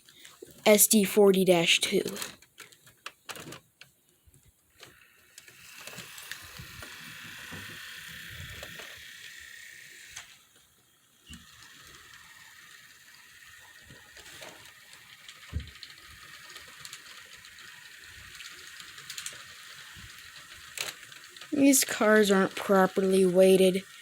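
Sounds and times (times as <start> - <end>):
model train motor whirring: 4.7 - 24.0
wheels clicking over track: 4.7 - 24.0.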